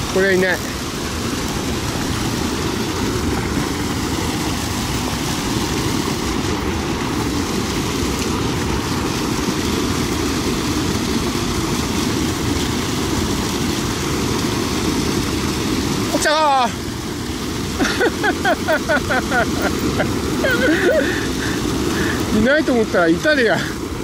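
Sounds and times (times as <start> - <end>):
water pouring over a weir: 0.0 - 24.0.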